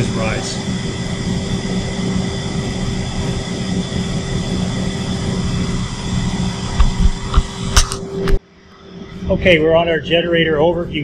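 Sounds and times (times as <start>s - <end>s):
steady whining tones: 0.0s - 11.0s
steam turbine mechanical drone: 0.0s - 11.0s.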